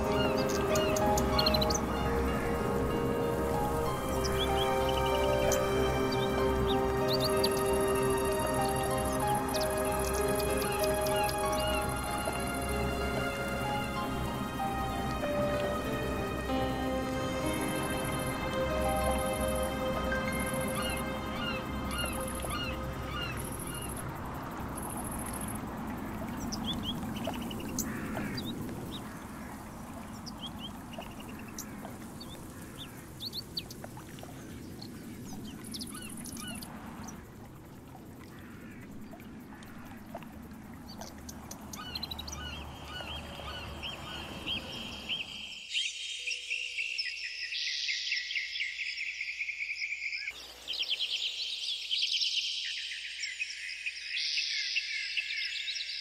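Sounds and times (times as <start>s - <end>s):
dense high chirping chorus: 0.0s - 33.8s, 34.5s - 49.3s
birds calling and chirping: 0.0s - 56.0s.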